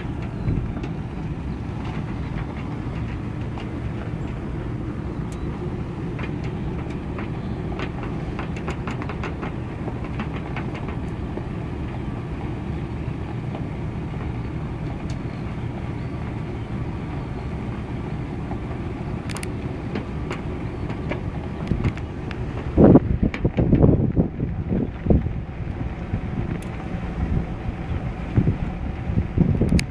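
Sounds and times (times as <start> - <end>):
light rattles and clicks: 0.0 - 27.0
vehicle rumbling on road: 0.0 - 29.9.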